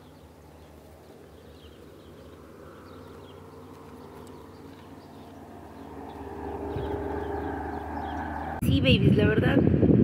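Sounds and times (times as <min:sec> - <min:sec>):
high bird chirps: 0:00.0 - 0:08.6.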